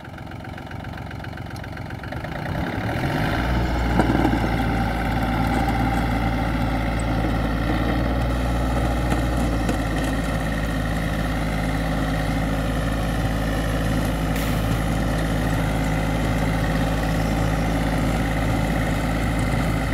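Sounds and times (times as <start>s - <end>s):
tractor diesel engine under load: 0.0s - 19.9s.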